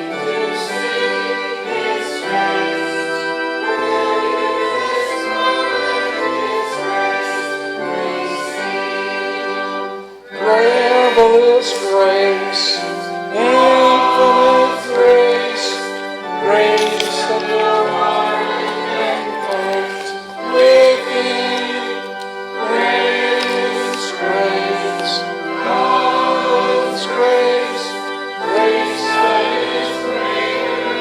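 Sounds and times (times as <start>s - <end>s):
hymn with instrumental accompaniment: 0.0s - 31.0s.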